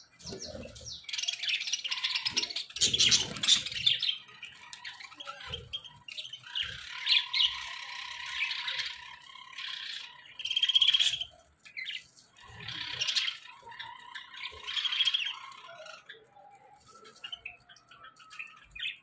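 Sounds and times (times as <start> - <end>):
budgerigars chattering and chirping: 0.0 - 19.0.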